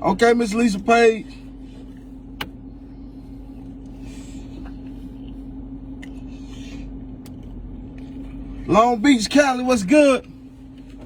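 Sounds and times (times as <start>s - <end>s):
car interior droning hum: 0.0s - 11.0s.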